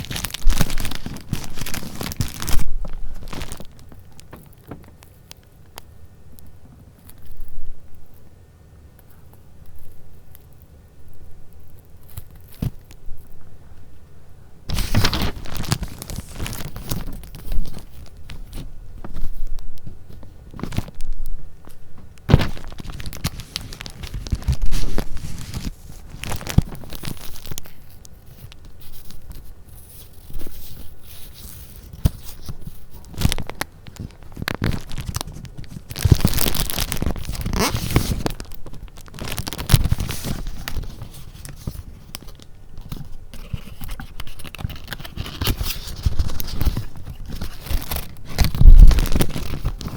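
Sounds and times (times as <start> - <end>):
paper rustling and crinkling: 0.0 - 5.3, 14.7 - 49.9.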